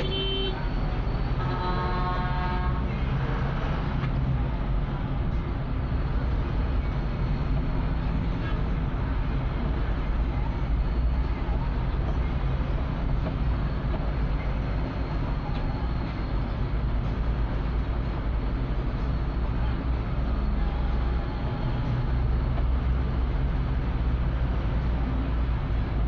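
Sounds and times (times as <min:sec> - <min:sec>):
vehicle engine and road rumble: 0:00.0 - 0:26.0.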